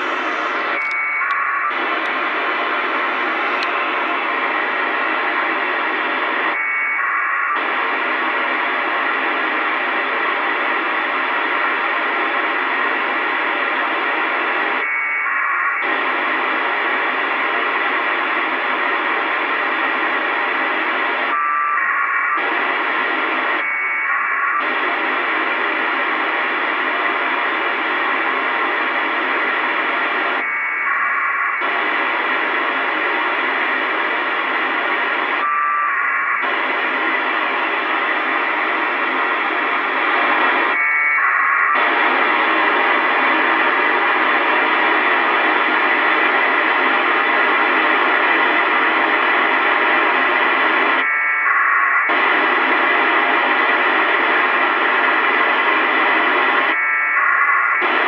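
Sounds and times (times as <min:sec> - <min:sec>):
radio receiver hiss: 0:00.0 - 0:06.6, 0:15.4 - 0:58.0
packet radio data tones: 0:00.0 - 0:58.0.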